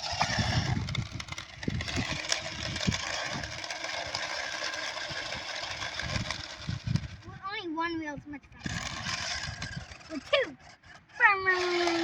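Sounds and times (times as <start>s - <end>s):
toy truck motor whirring: 0.0s - 7.6s, 8.3s - 12.0s.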